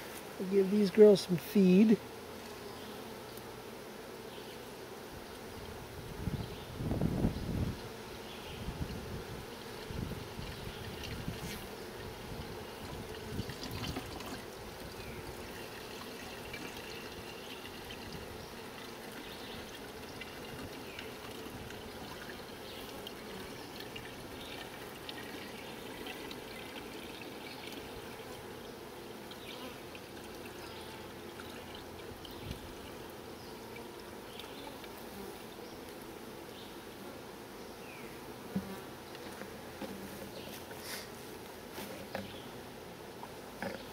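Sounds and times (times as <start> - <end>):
honeybees buzzing: 0.0 - 43.9.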